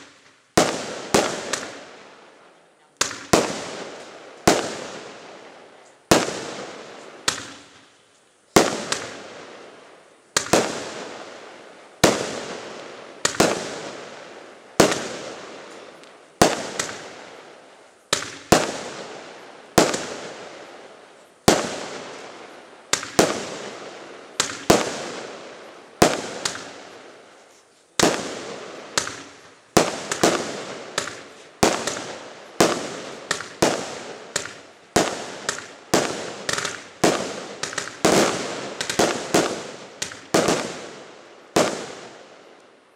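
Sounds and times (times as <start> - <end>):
firework bangs with hiss: 0.0 - 42.9.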